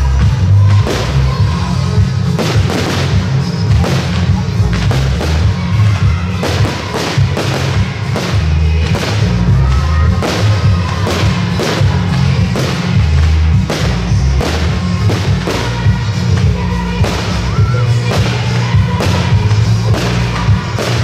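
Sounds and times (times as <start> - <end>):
fireworks bangs and crackles: 0.0 - 21.0
music with heavy bass: 0.0 - 21.0.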